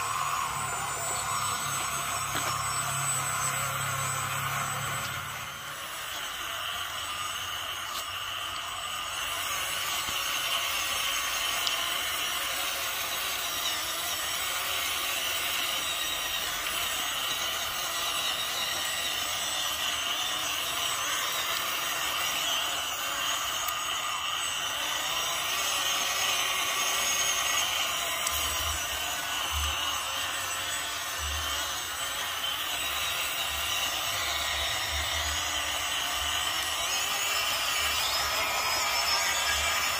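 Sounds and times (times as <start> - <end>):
toy truck motor whining: 0.0 - 39.9.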